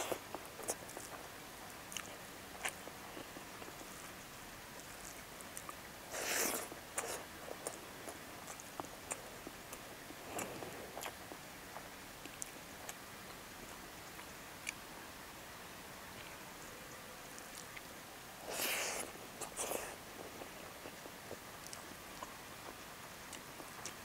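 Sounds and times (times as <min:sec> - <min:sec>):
soft chewing: 0:00.0 - 0:15.0, 0:16.1 - 0:24.0.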